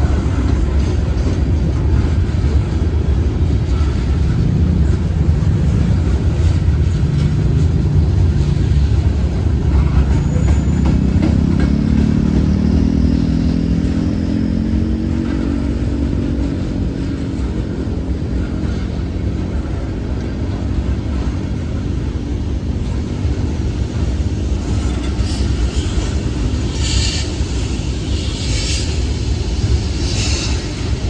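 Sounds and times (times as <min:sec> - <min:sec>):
diesel locomotive engine: 0:00.0 - 0:31.0
train rumble: 0:00.0 - 0:31.0.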